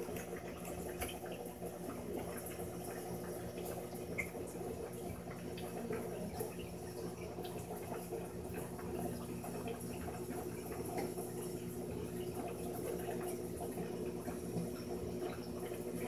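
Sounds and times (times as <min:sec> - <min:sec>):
water trickling and bubbling: 0:00.0 - 0:16.0.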